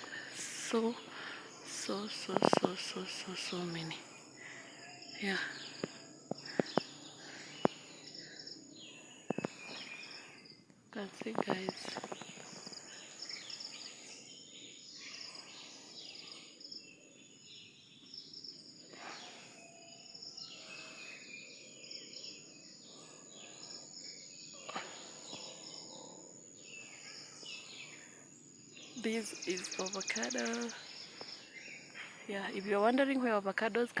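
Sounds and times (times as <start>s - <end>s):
birds chirping: 0.0s - 34.0s
high insect-like whine: 0.0s - 34.0s.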